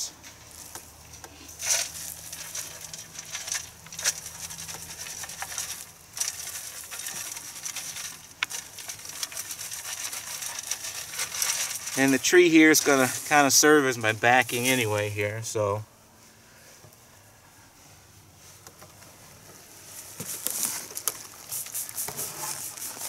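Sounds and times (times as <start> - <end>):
peat moss rustling through sifter: 0.0 - 23.0.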